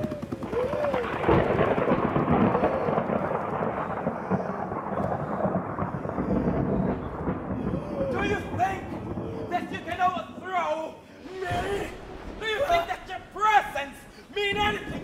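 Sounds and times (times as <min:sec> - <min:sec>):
rolling thunder: 0:00.0 - 0:15.0
rain-like hiss: 0:00.6 - 0:15.0.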